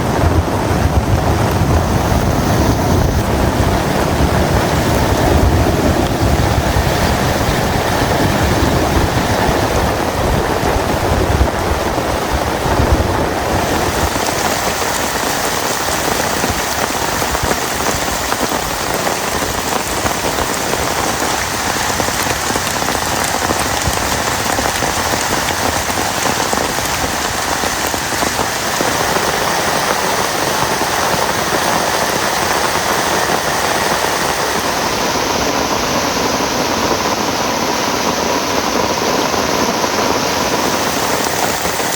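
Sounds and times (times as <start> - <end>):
deep rumble: 0.0 - 41.9
heavy rain hissing: 0.0 - 41.9.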